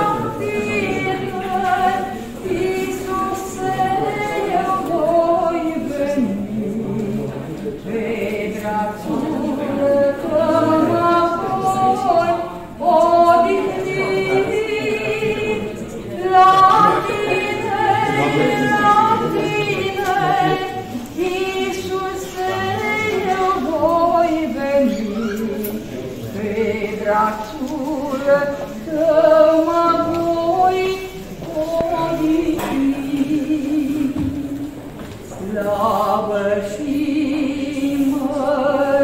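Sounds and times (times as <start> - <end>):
voices singing a hymn: 0.0 - 39.0.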